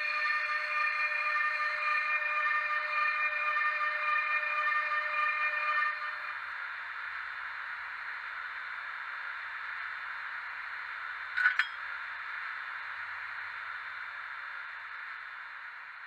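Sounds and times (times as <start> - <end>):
electric locomotive hum with hiss: 0.0 - 16.0.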